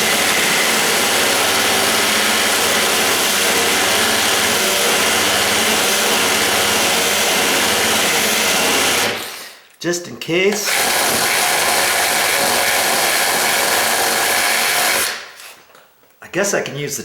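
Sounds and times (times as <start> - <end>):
power drill grinding metal: 0.0 - 9.6, 10.6 - 15.6.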